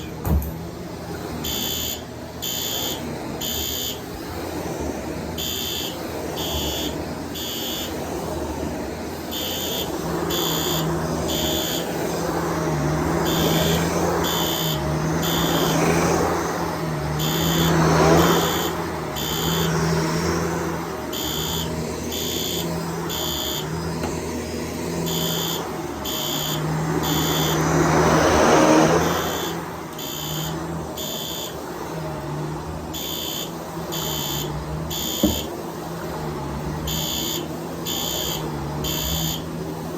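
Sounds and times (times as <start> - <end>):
vacuum cleaner running: 0.0 - 39.9
fire alarm horn blasts: 1.3 - 4.4, 5.2 - 24.0, 24.6 - 35.6, 36.3 - 39.6.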